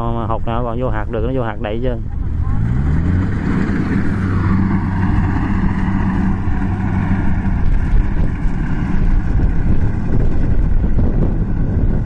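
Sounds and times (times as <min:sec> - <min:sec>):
harvester diesel engine running: 0:00.3 - 0:12.0.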